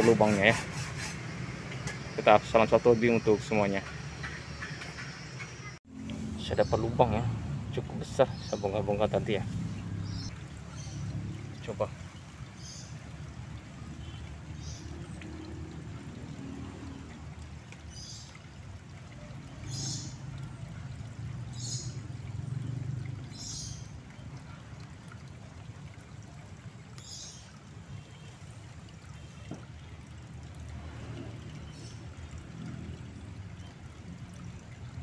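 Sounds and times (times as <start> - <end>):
water trickling in drain: 1.2 - 35.0.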